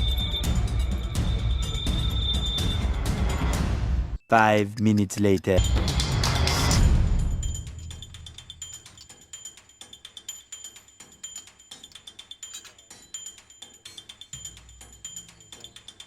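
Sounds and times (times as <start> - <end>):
light clicking percussion music: 0.0 - 16.0.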